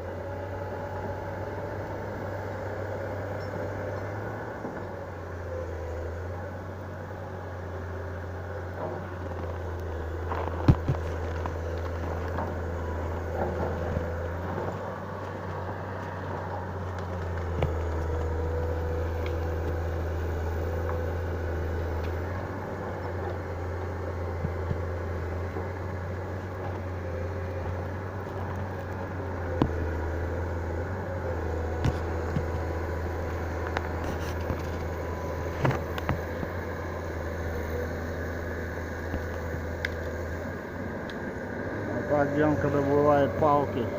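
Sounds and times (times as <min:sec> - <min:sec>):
vehicle engine droning: 0:00.0 - 0:43.9.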